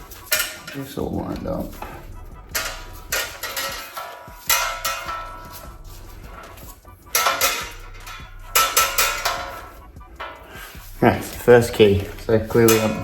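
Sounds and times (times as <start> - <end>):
metal parts clinking and rattling: 0.0 - 13.0.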